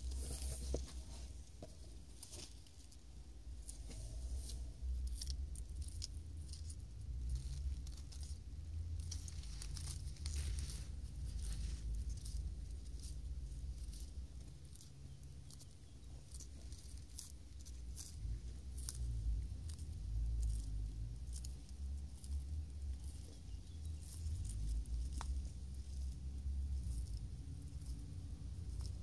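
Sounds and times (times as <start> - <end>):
low rumble: 0.0 - 29.0
tortoise biting a leaf: 0.0 - 29.0.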